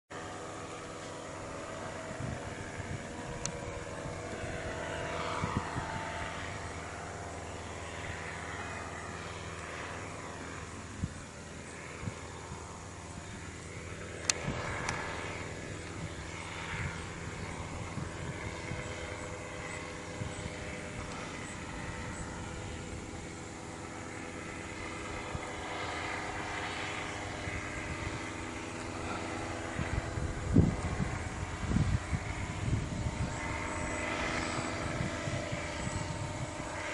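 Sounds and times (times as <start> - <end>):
engine and propeller droning: 0.0 - 36.9.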